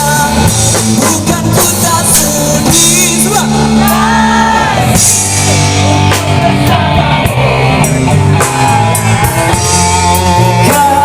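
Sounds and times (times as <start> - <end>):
rock band sustained chords: 0.0 - 11.0.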